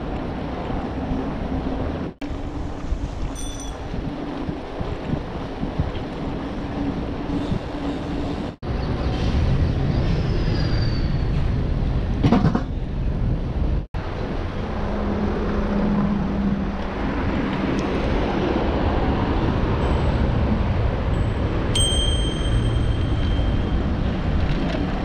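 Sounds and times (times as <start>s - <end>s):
wind rush while cycling: 0.0s - 25.0s.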